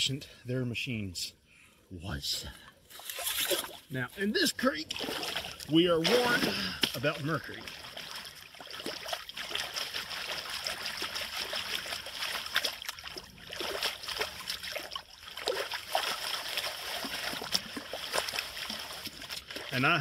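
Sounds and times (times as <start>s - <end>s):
creek water splashing and trickling: 2.6s - 20.0s.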